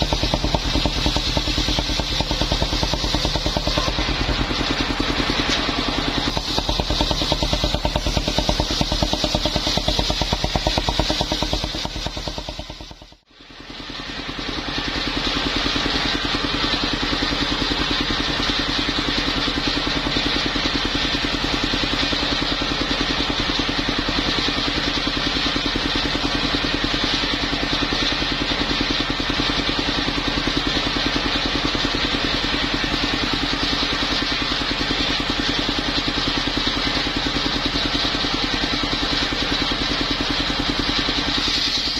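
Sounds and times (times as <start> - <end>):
sawmill engine running: 0.0 - 41.9.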